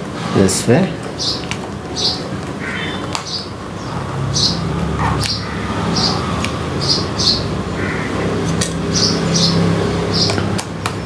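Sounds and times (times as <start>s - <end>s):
small bird chirping: 1.1s - 11.0s.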